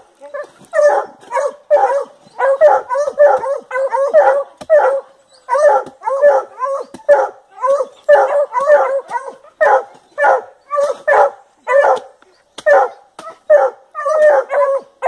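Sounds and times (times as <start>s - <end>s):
hound barking: 0.3s - 15.0s.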